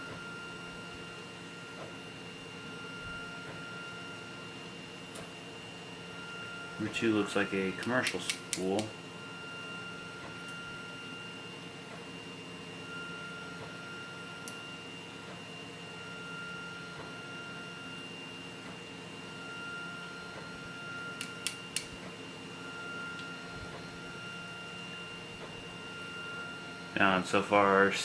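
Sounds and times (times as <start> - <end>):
steady low hum: 0.0 - 28.0
thin high whine: 0.0 - 28.0.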